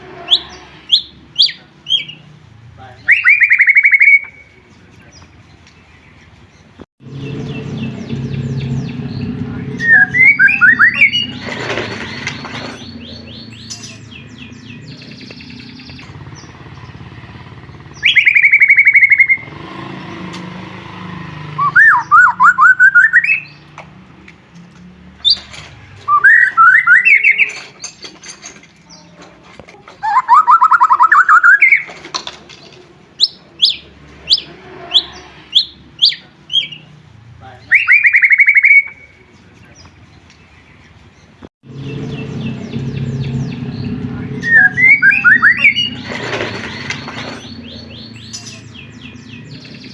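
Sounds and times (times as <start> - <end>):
bird singing varied phrases: 0.3 - 23.7, 25.2 - 28.1, 30.0 - 32.0, 33.2 - 49.9
sharp bird chips: 2.9 - 24.3, 25.2 - 29.2, 30.0 - 36.9, 37.6 - 49.9.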